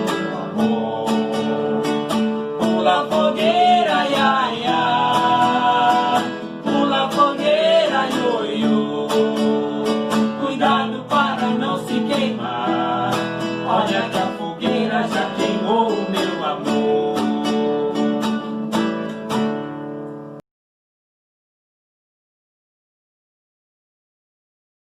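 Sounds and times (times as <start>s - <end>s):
acoustic guitar music: 0.0s - 20.4s.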